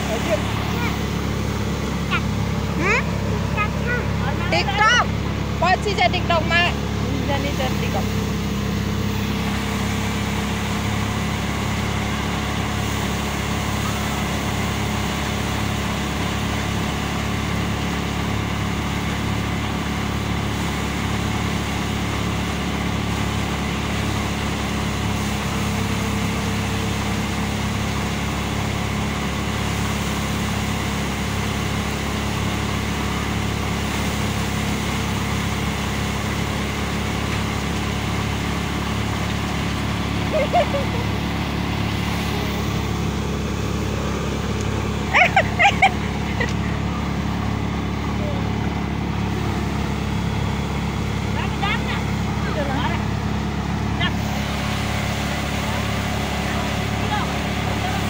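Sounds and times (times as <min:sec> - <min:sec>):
threshing machine engine drone: 0:00.0 - 0:58.0.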